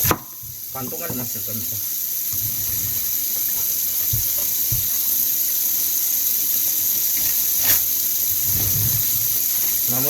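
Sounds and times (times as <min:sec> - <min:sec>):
kitchen tap running: 0:00.0 - 0:10.0.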